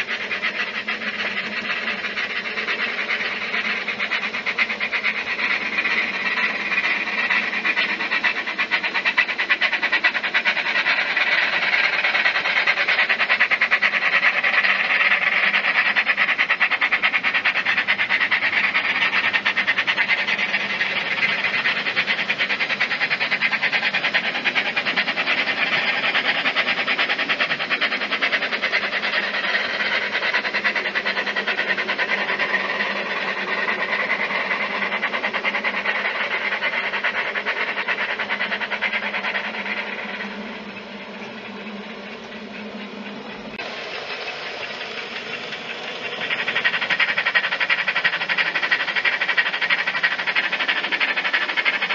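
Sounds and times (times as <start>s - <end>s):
tinny steam engine chuff: 0.0s - 51.9s.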